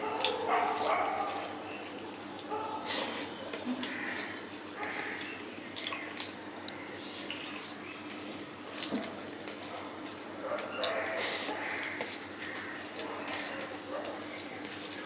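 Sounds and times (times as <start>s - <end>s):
wet chewing and lip smacks: 0.0s - 15.0s.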